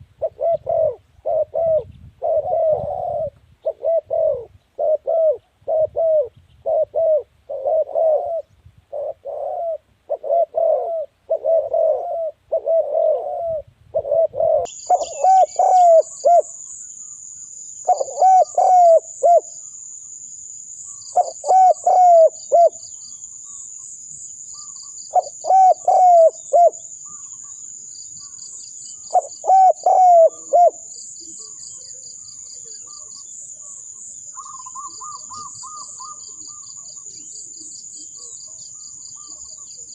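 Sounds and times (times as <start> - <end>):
doves cooing: 0.2 - 16.6, 17.9 - 19.5, 21.1 - 22.8, 24.6 - 27.6, 29.0 - 33.8, 34.4 - 39.9.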